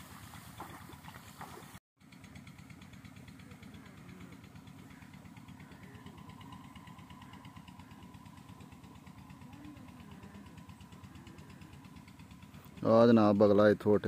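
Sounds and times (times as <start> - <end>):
faint engine idling: 0.0 - 14.0.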